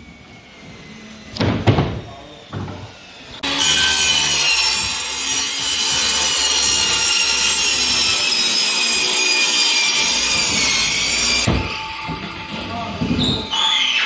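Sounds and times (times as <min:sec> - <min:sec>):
power saw cutting wood: 0:00.0 - 0:14.0.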